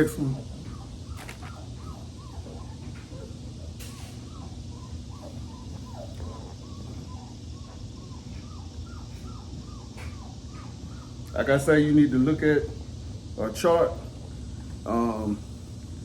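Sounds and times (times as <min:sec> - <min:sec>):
puppies whimpering and squealing: 0:00.0 - 0:15.8
steady low hum: 0:00.0 - 0:16.0.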